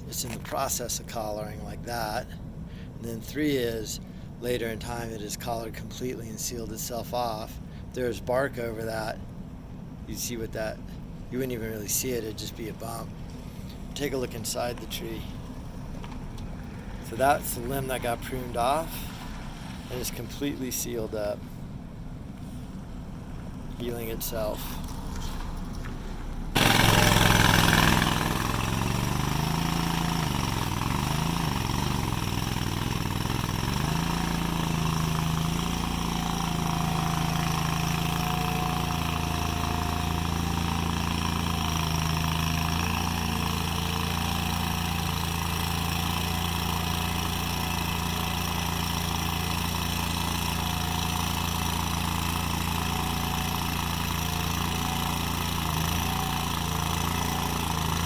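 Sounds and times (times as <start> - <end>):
engine starting and running: 8.9 - 58.0.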